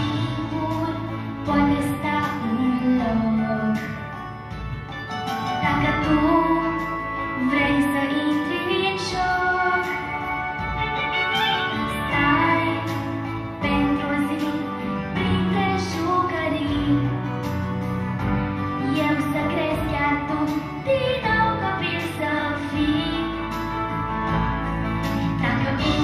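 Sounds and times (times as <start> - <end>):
girl singing pop ballad: 0.0 - 4.9, 5.5 - 26.0
instrumental accompaniment: 0.0 - 26.0.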